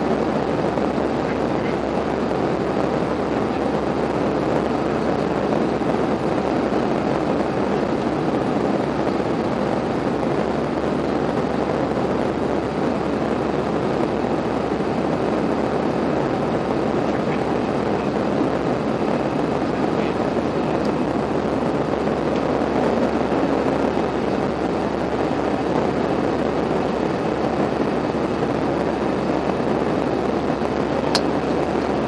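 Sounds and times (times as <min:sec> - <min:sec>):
airplane cabin engine rush: 0:00.0 - 0:32.0.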